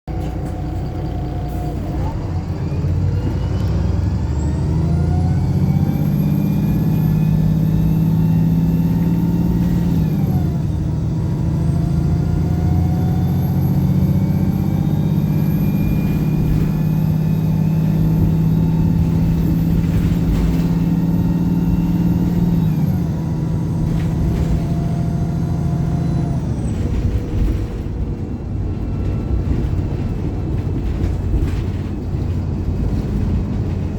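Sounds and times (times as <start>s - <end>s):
bus diesel engine accelerating: 0.1s - 33.9s
high engine whine: 0.2s - 33.9s.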